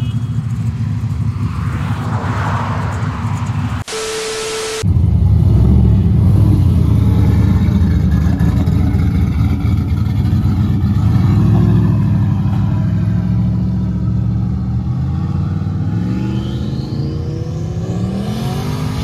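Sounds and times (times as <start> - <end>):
car engine accelerating: 0.3 - 19.0.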